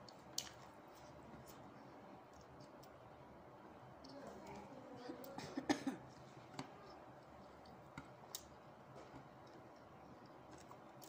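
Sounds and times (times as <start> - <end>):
faint clicks of eating: 0.0 - 3.0, 4.0 - 5.5, 6.1 - 11.0.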